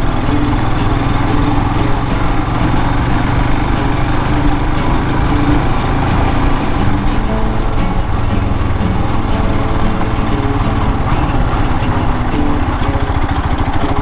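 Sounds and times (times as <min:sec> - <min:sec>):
motorcycle engine droning: 0:00.0 - 0:14.0.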